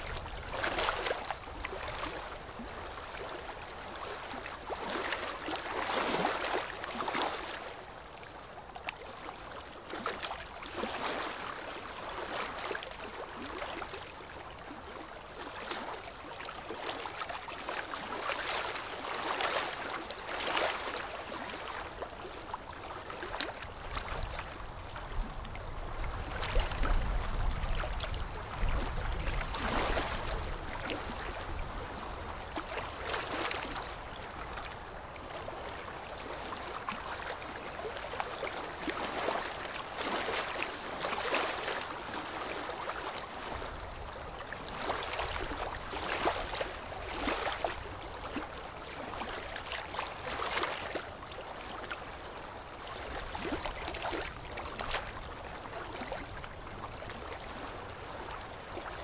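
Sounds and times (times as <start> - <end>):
small waves lapping on sand: 0.0 - 59.0.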